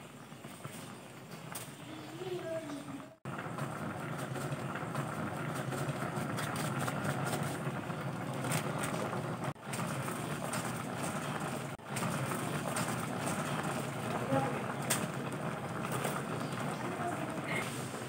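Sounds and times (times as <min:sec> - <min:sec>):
pot boiling and bubbling: 0:00.0 - 0:18.0.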